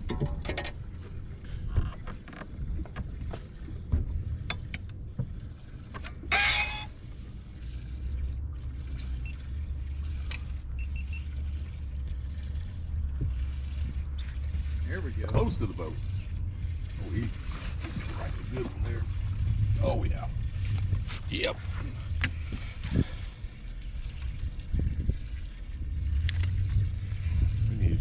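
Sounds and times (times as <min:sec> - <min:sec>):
boat engine rumble: 0:00.0 - 0:28.0.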